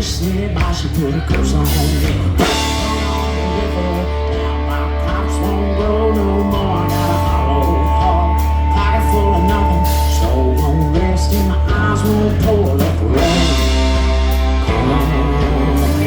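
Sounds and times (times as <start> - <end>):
person singing: 0.0 - 16.0
rock music with guitar and drums: 0.0 - 16.0.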